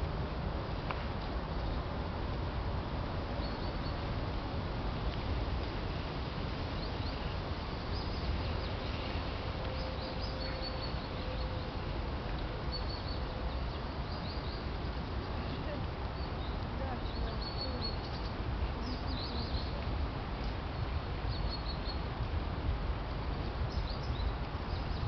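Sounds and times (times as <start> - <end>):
small birds chirping faintly: 0.8 - 25.0.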